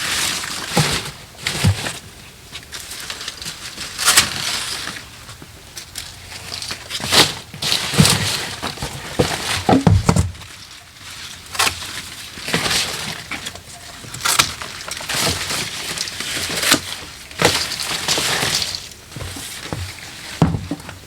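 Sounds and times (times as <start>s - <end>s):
rustling: 2.6s - 20.7s.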